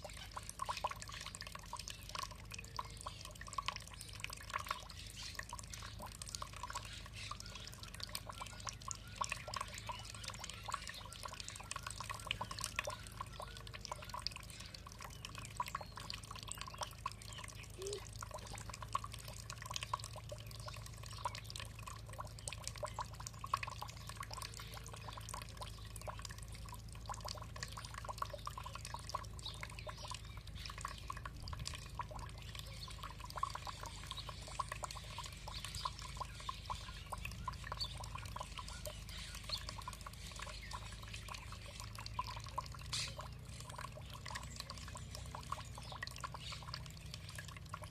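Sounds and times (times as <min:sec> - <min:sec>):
water trickling and dripping: 0:00.0 - 0:47.9.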